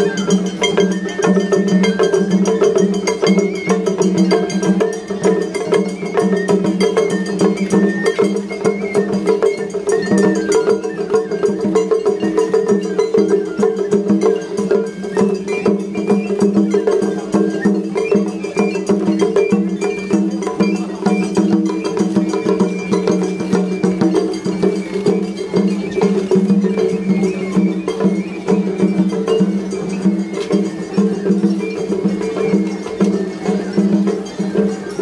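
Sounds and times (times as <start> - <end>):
drums: 0.0 - 35.0.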